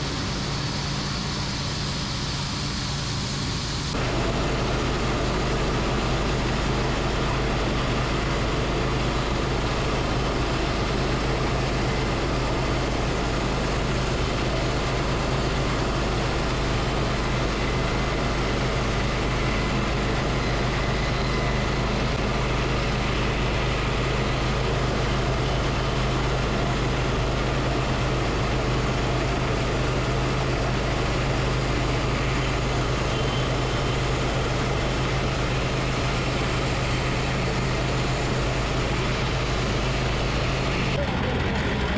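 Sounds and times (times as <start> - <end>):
sawmill engine droning: 0.0 - 41.9.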